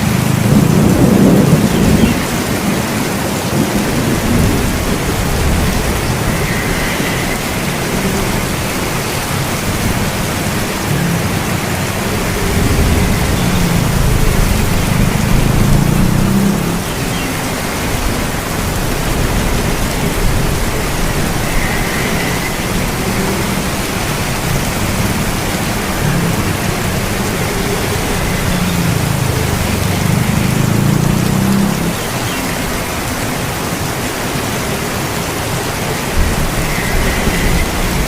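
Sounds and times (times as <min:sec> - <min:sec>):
thunder rumble: 0:00.0 - 0:32.0, 0:35.9 - 0:38.0
heavy rain: 0:00.0 - 0:38.0.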